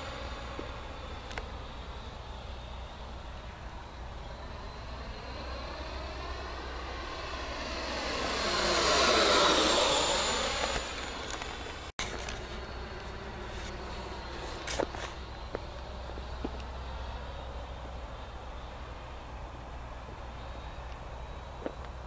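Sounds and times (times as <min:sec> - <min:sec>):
electric ducted fan whooshing whine: 0:00.0 - 0:22.0.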